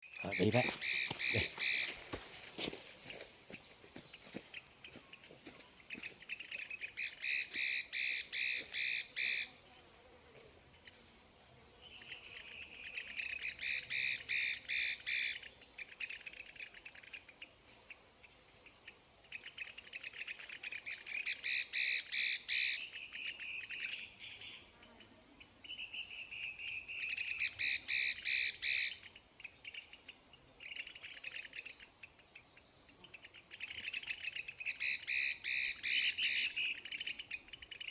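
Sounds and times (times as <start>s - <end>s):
songbird singing rapid repeated notes: 0.0s - 9.9s, 10.7s - 37.9s
faint insect trill: 0.0s - 37.9s.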